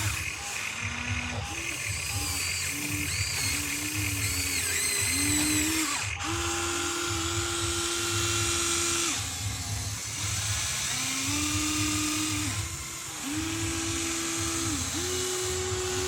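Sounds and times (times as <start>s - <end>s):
small electric motors whining: 0.0s - 16.0s.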